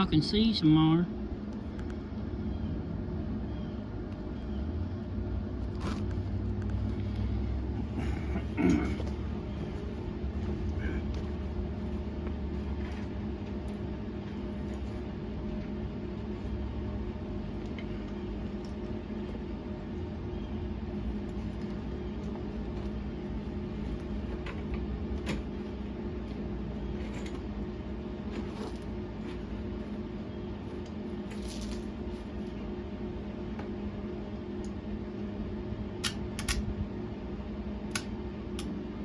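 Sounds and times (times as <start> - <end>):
electrical machine hum: 0.0 - 39.0.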